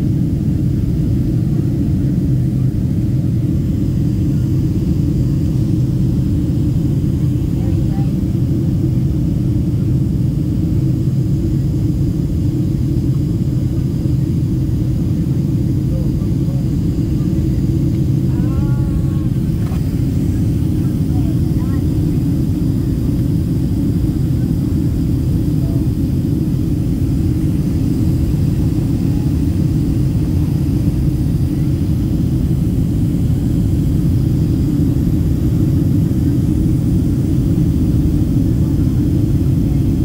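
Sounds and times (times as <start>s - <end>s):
airliner cabin rumble: 0.0s - 40.0s.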